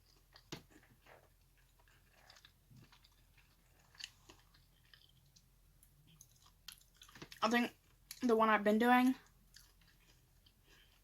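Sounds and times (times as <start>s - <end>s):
person chewing: 0.0s - 8.2s, 9.2s - 11.0s.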